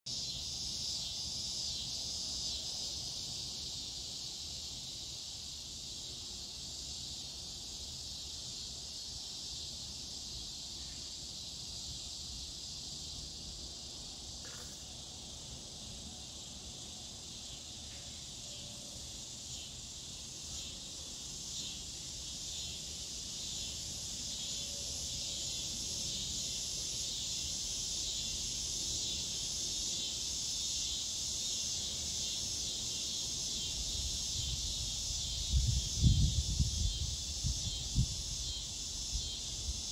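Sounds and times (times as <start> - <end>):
cicada buzzing: 0.1 - 39.9.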